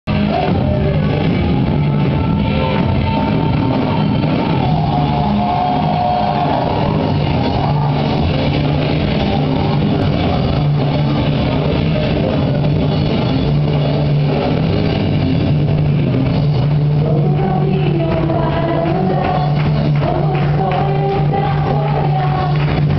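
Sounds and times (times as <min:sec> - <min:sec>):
band playing rock worship music: 0:00.1 - 0:22.9
drum kit: 0:00.1 - 0:22.9
electric guitar: 0:00.1 - 0:22.9.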